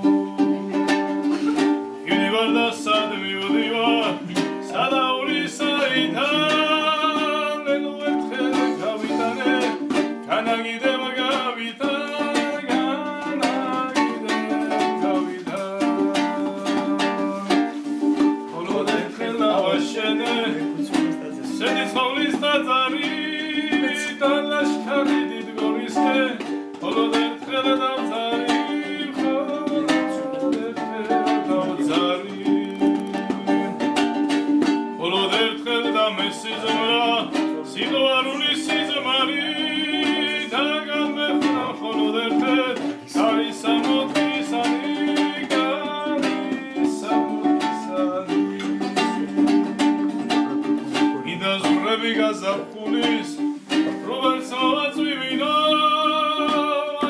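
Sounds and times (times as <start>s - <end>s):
man singing: 0.0s - 57.0s
plucked string instrument: 0.0s - 57.0s.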